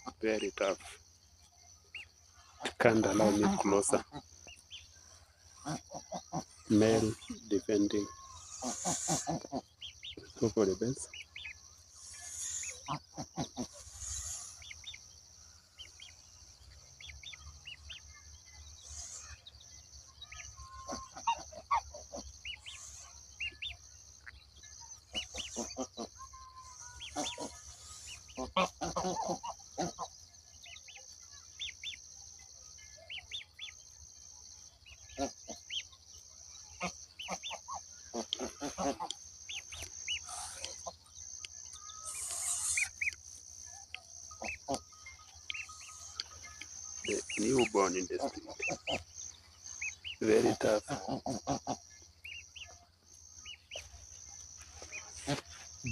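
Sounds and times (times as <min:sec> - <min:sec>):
harsh poultry calls: 0:00.0 - 0:01.0, 0:01.9 - 0:32.0, 0:34.6 - 0:55.9
poultry peeps and clucks: 0:00.0 - 0:55.9.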